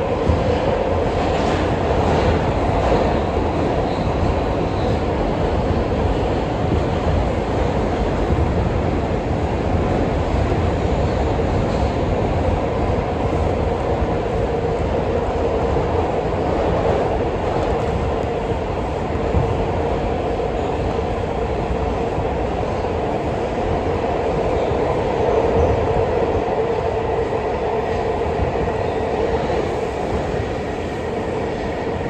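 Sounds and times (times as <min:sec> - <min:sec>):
mid-pitched train hum: 0:00.0 - 0:32.0
subway train wheels rumbling on rail: 0:00.0 - 0:32.0.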